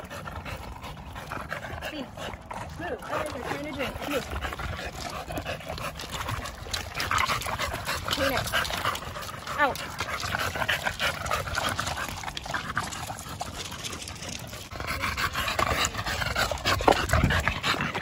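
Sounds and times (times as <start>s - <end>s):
dogs lapping water: 0.0s - 18.0s
dogs panting: 0.0s - 18.0s.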